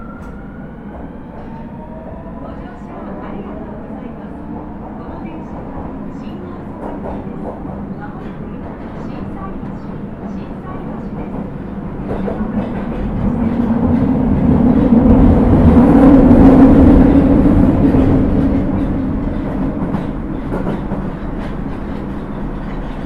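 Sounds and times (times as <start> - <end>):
subway train rumble: 0.0 - 23.0.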